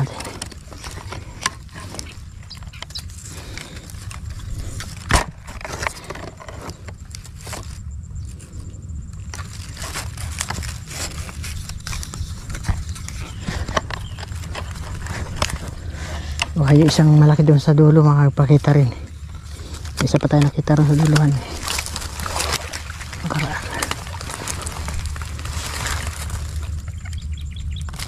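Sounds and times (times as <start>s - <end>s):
small clicks and crackles: 0.0s - 17.2s, 19.0s - 28.0s
low steady rumble: 0.0s - 28.0s.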